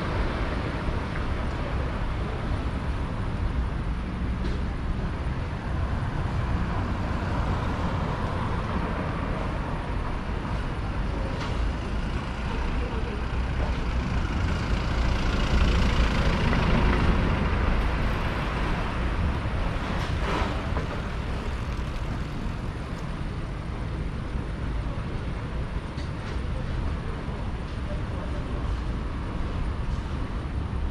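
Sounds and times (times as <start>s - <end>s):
passing vehicles: 0.0s - 30.9s.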